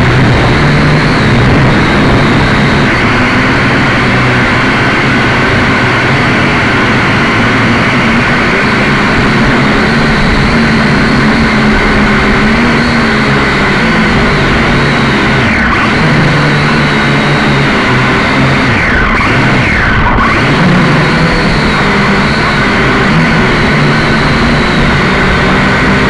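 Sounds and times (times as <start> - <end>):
drone motors and propellers: 0.0 - 26.0.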